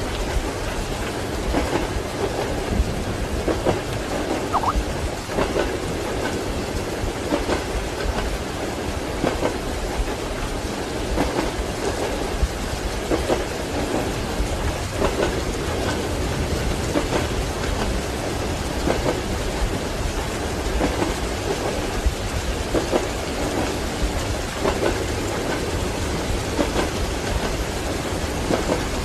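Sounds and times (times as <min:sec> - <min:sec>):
heavy rain: 0:00.0 - 0:29.0
railway carriage rumble: 0:00.0 - 0:29.0
train wheels clattering over joints: 0:05.2 - 0:29.0.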